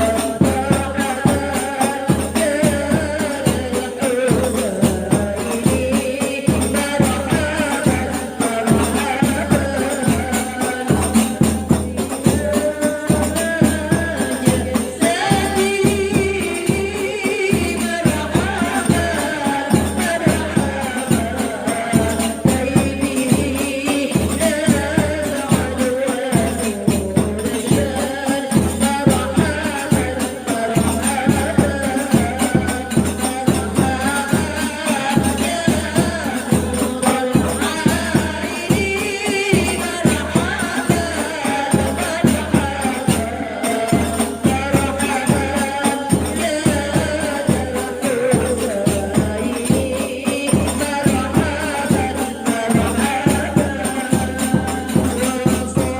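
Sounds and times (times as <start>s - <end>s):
frame drums with jingles: 0.0s - 55.9s
women singing in unison: 0.0s - 55.9s.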